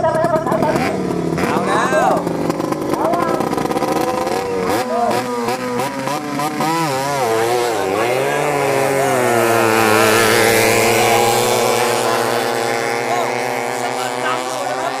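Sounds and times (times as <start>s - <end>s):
speedboat engines at full throttle: 0.0s - 15.0s.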